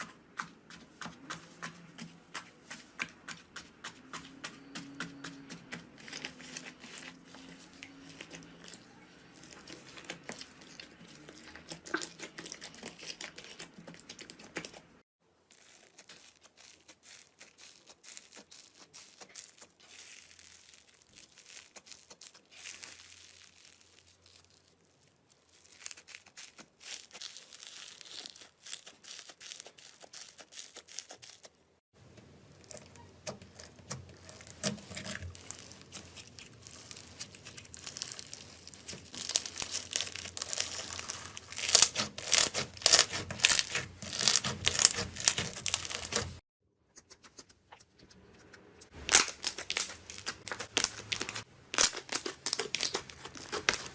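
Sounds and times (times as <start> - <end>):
slime crackling and popping: 5.2 - 14.8, 15.5 - 31.5, 32.4 - 46.4, 48.8 - 53.9.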